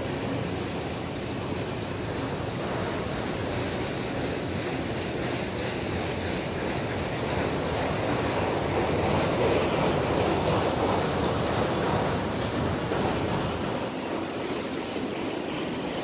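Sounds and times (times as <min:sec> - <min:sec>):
freight train rolling on rails: 0:00.0 - 0:16.0.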